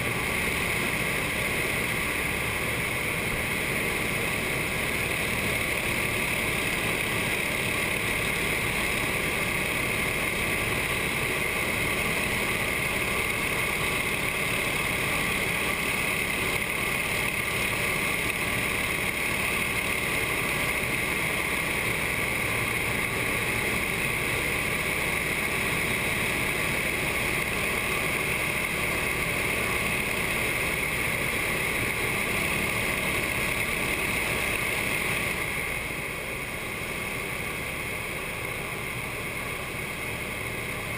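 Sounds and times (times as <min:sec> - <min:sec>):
propeller engine drone: 0:00.0 - 0:40.9.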